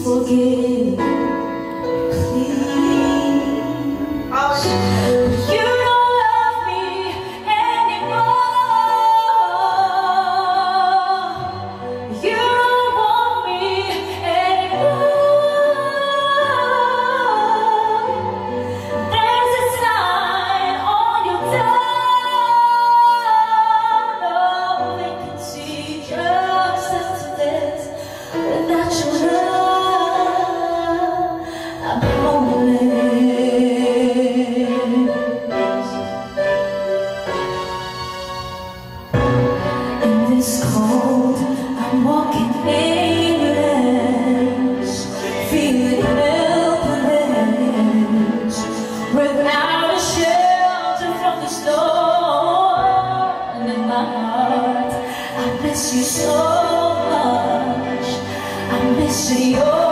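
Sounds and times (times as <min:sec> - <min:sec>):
woman singing karaoke: 0:00.0 - 0:36.2, 0:39.9 - 0:59.9
karaoke backing track: 0:00.0 - 0:59.9.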